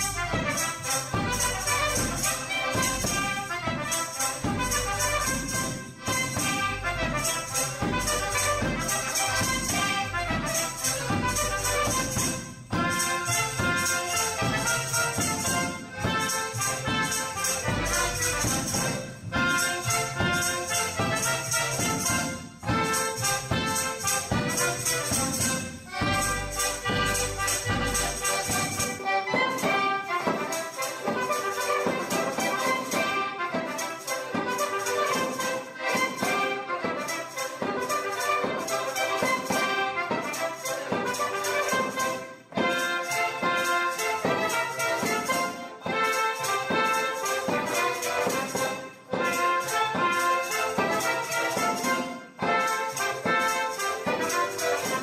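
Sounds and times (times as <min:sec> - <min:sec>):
folk band playing dance tune: 0:00.0 - 0:55.0.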